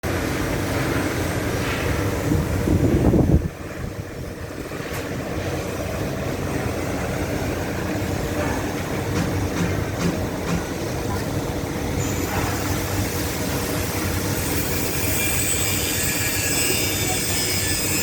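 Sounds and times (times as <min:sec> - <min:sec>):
machinery rumble and hiss: 0:00.0 - 0:18.0.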